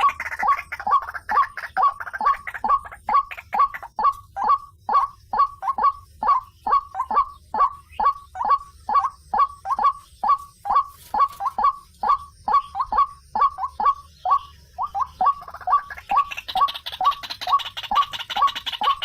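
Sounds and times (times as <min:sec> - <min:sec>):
bird calling harsh notes: 0:00.0 - 0:19.0.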